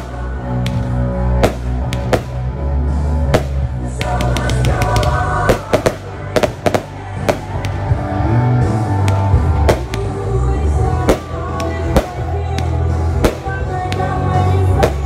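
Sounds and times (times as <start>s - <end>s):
loud music with drum beat: 0.0s - 2.5s, 3.3s - 10.2s, 10.8s - 15.0s
fireworks banging and crackling: 0.0s - 8.2s, 8.9s - 15.0s.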